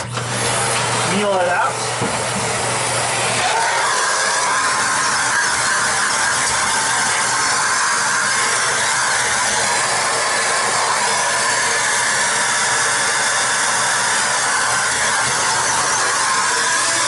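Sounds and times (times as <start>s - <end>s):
vacuum cleaner suction hiss: 0.2s - 17.0s.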